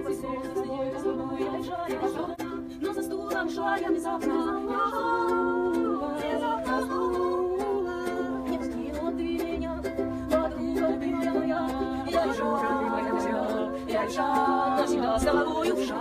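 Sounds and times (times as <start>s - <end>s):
choir singing in harmony: 0.0s - 7.9s, 9.2s - 16.0s
ukulele strumming: 0.0s - 16.0s.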